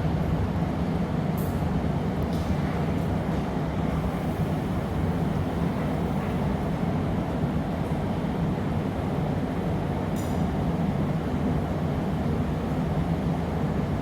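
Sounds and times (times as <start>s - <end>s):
furnace and burners roaring: 0.2s - 14.0s.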